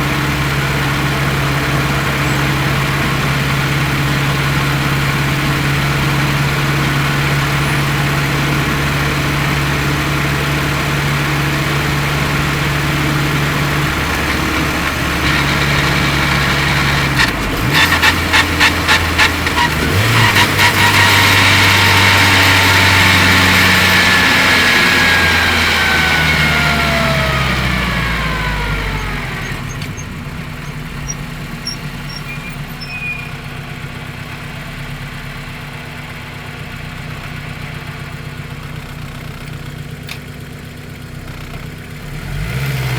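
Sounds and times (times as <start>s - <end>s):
rapid engine pulses: 0.0s - 41.7s
car engine running: 0.0s - 42.9s.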